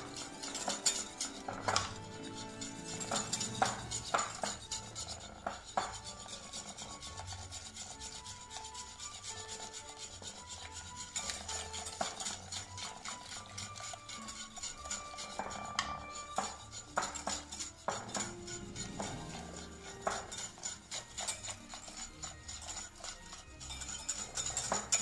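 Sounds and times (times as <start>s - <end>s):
whisk scraping glass bowl: 0.0s - 25.0s.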